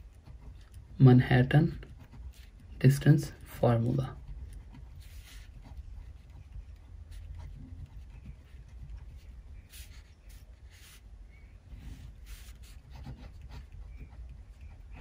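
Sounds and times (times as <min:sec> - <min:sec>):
pen scratching on paper: 0:00.0 - 0:11.1, 0:11.7 - 0:15.0
low steady hum: 0:00.0 - 0:15.0.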